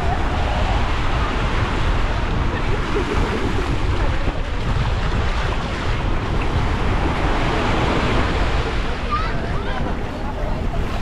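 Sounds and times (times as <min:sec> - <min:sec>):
small waves on shore: 0:00.0 - 0:11.0
wind buffeting microphone: 0:00.0 - 0:11.0.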